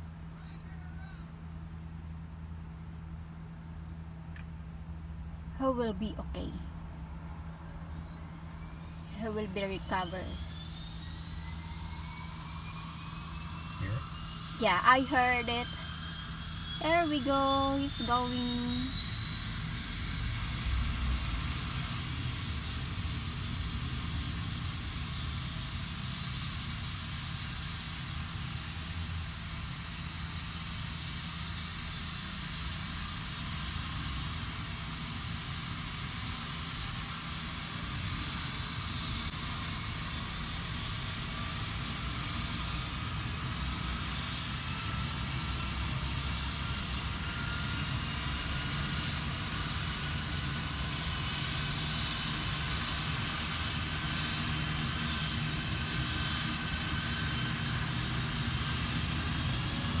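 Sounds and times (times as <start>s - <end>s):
helicopter turbine whine: 0.0s - 60.0s.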